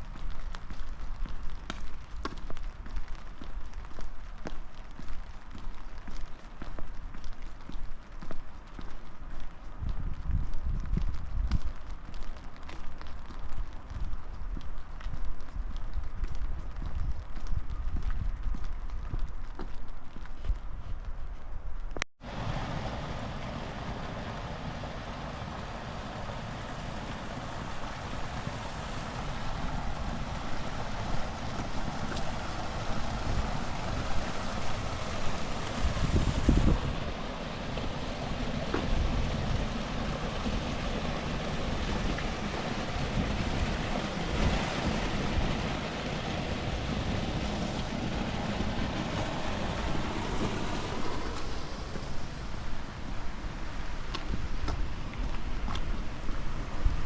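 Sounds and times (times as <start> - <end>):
steady rain: 0.0 - 21.2, 22.2 - 57.0
wind buffeting microphone: 0.0 - 57.0.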